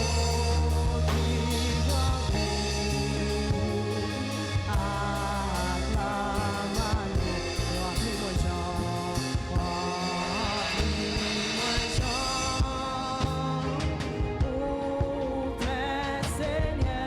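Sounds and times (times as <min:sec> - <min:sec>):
gospel band music with drums: 0:00.0 - 0:17.0.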